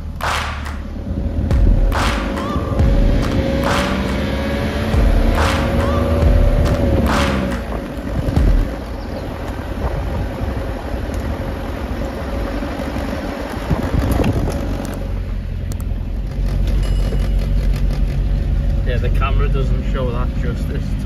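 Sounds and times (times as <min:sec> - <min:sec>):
vehicle engine running: 0:00.0 - 0:21.0
vehicle jolting over ruts: 0:00.9 - 0:19.3.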